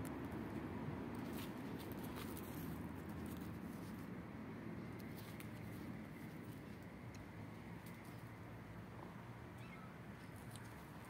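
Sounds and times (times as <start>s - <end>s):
kitten paws scratching dirt: 0.0s - 8.4s, 9.6s - 11.0s.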